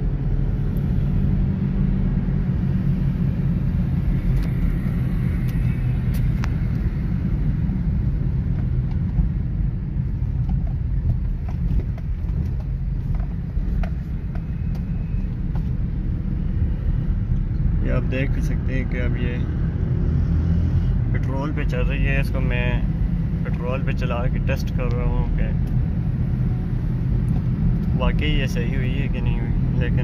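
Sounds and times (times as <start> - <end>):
car engine running at low revs: 0.0 - 30.0
road noise inside car: 0.0 - 30.0.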